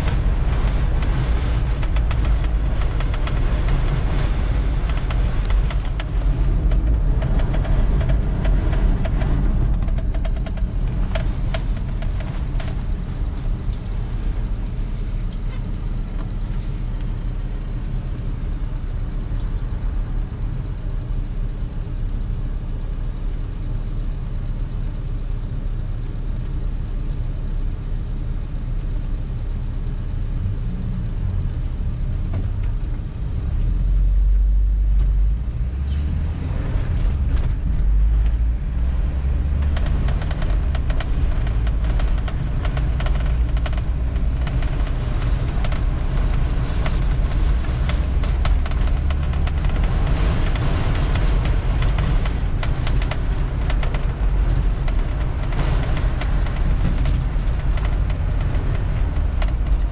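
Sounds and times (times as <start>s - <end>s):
rain ticking on car: 0.0s - 28.5s, 29.7s - 59.9s
car engine and tyres rumbling: 0.0s - 59.9s.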